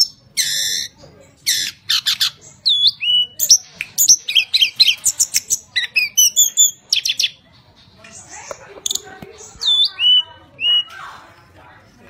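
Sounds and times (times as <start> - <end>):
songbird singing: 0.0 - 11.1.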